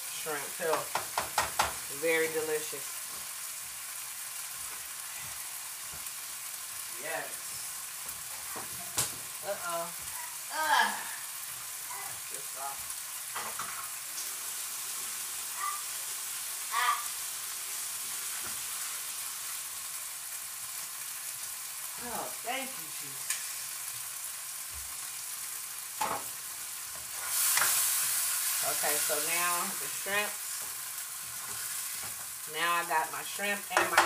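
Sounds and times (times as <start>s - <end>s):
shrimp sizzling in frying pan: 0.0s - 34.0s.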